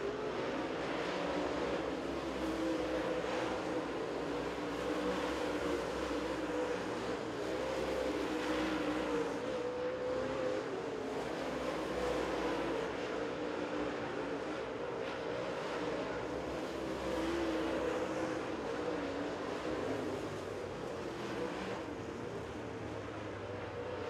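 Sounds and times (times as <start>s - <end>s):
race car engines droning: 0.0s - 24.0s.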